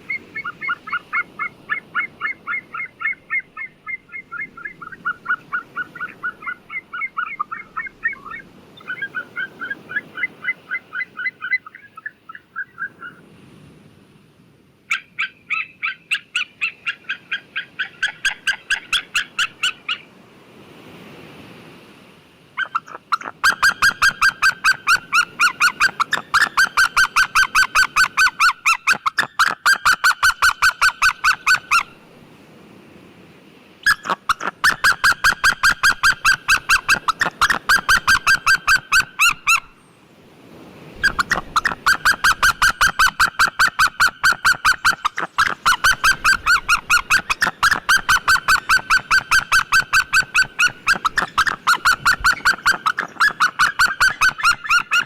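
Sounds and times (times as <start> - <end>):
eagle yelping calls: 0.0 - 13.2, 14.9 - 20.1, 22.6 - 32.0, 33.8 - 39.8, 41.0 - 55.0.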